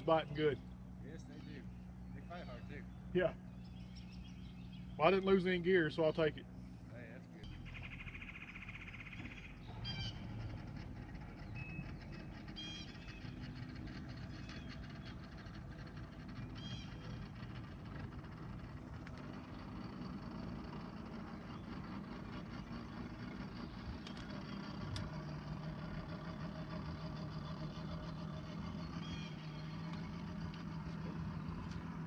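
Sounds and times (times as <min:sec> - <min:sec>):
boat motor humming: 0:00.0 - 0:32.0.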